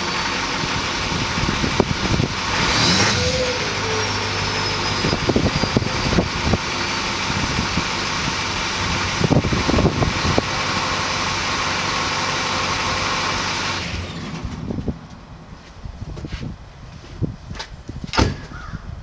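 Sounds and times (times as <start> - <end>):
diesel engine idling: 0.0 - 15.7.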